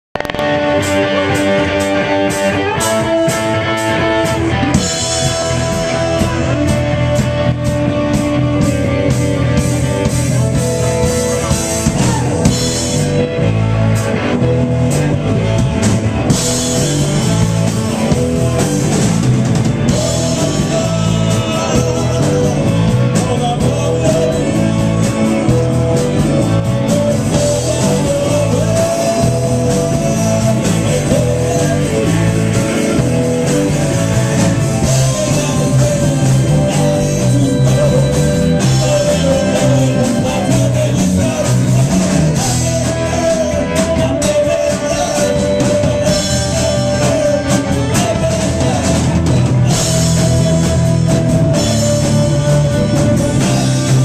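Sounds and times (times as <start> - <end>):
rock band playing loudly: 0.0 - 54.0.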